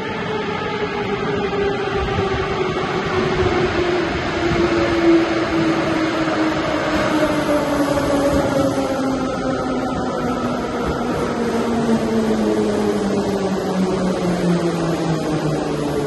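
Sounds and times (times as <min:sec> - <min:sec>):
metro train rumble: 0:00.0 - 0:16.0.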